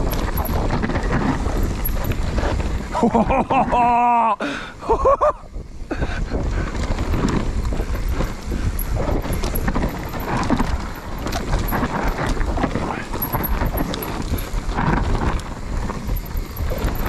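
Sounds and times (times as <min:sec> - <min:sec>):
bike rattling and knocking: 0:00.0 - 0:04.1, 0:05.0 - 0:17.0
tyres on dirt: 0:00.0 - 0:17.0
wind buffeting microphone: 0:00.0 - 0:17.0.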